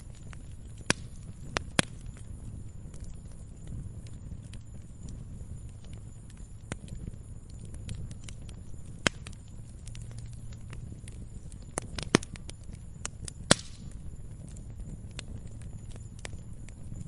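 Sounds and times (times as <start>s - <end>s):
log fire crackling: 0.0s - 17.0s
low rumble of flames: 0.0s - 17.0s.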